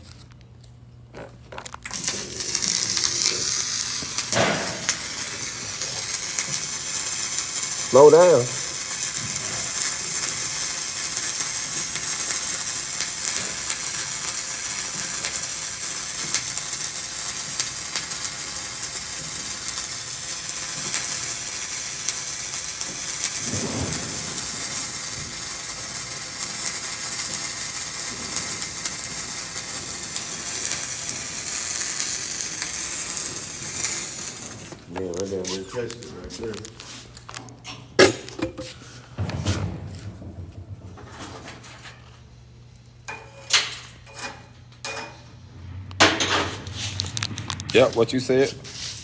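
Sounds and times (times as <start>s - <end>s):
welding arc crackling and hissing: 1.1s - 40.3s, 41.4s - 49.0s.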